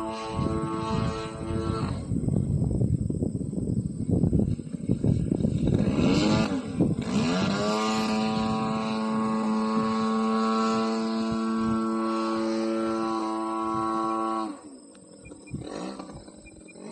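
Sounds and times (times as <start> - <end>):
model plane engine droning: 0.0 - 16.9.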